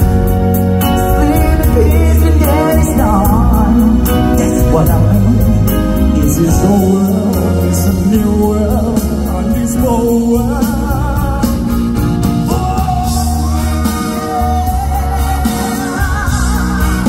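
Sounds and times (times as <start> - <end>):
heavy bass line: 0.0 - 17.0
man singing live: 0.0 - 17.0
steady drums: 0.0 - 17.0.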